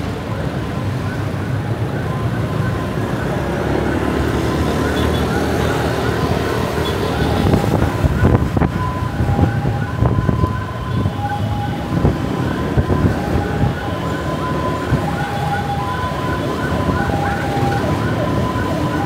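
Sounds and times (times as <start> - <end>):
city traffic rumble: 0.0 - 19.0
two-tone emergency siren: 0.0 - 19.0
fast repeating siren chirp: 2.0 - 19.0.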